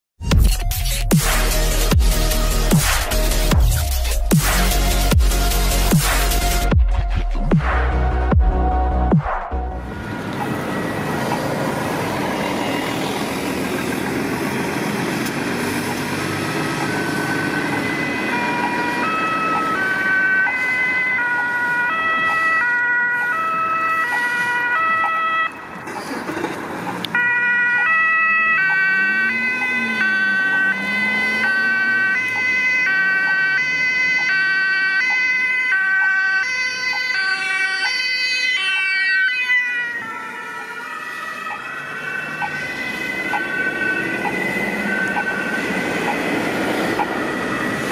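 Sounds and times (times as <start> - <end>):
traffic noise: 7.5 - 47.9
two-tone ambulance siren: 7.7 - 26.0, 27.0 - 47.9.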